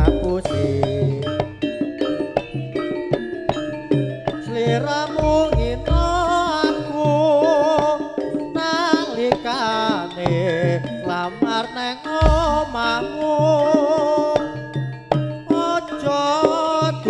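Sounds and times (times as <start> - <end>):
hand drum strokes: 0.0 - 10.8, 12.2 - 15.8
ornamented lead melody: 0.0 - 17.0
pitched percussion: 0.0 - 17.0.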